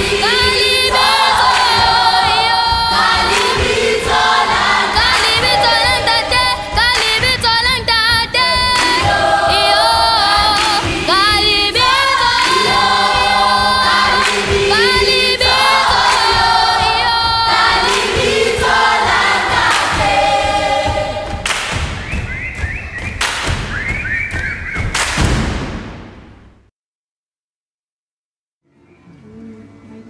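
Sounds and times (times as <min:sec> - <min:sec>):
children's choir singing: 0:00.0 - 0:24.8.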